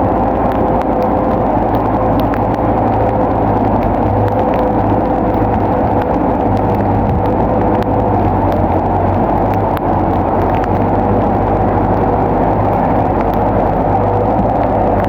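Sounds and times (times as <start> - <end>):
bulldozer diesel engine running: 0.0 - 15.0
faint clicks and clanks: 0.0 - 15.0.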